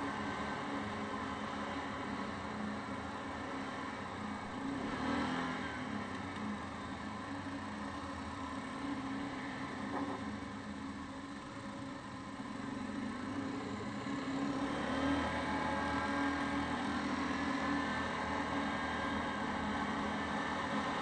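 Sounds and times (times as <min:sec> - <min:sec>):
quad bike engine running: 0:00.0 - 0:21.0.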